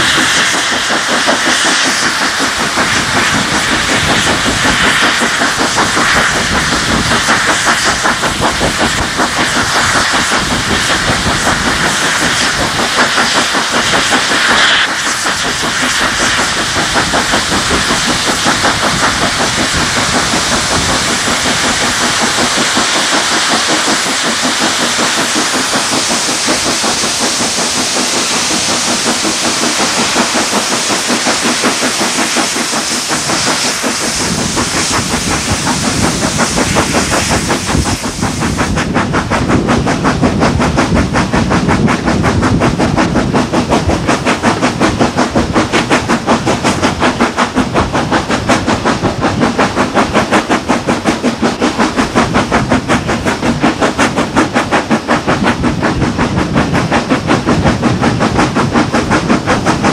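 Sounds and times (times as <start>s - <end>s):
loud hiss of steam: 0.0s - 59.9s
steam locomotive exhaust beats: 0.0s - 59.9s.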